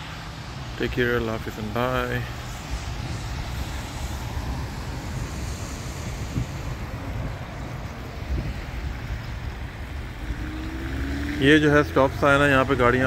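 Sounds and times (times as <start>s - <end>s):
car tyres hissing on wet road: 0.0s - 13.0s
wind buffeting microphone: 0.0s - 13.0s.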